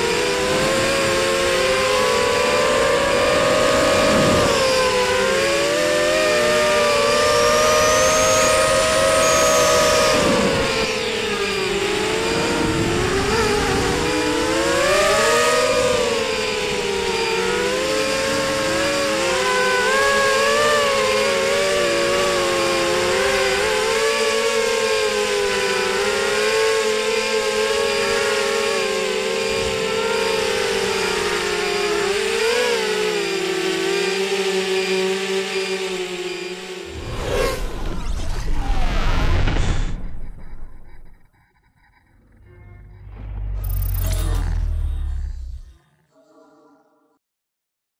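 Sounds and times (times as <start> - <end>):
quadcopter motors whining: 0.0 - 46.2.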